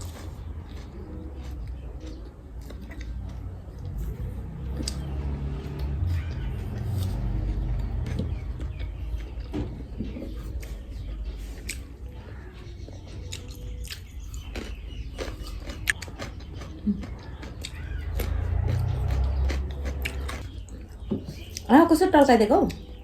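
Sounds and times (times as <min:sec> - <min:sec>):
close chewing and mouth sounds: 0:00.0 - 0:21.7.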